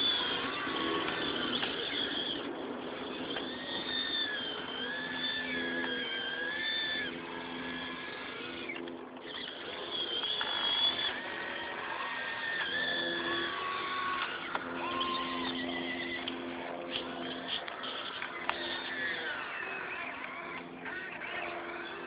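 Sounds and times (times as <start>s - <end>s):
model excavator motor whine: 0.0s - 22.0s.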